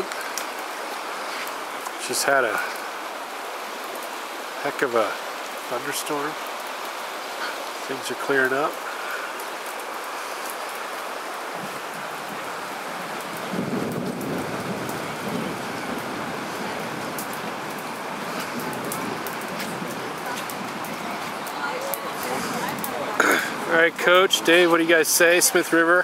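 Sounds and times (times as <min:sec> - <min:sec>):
rain hissing and dripping: 0:00.0 - 0:26.0
ticks of raindrops: 0:00.0 - 0:26.0.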